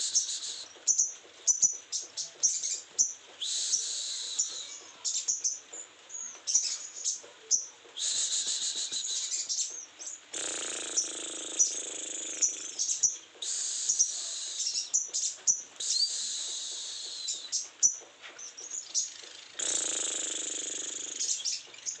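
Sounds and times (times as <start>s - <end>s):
sharp bird calls: 0.0s - 22.0s
songbird scratchy chattering song: 0.0s - 22.0s.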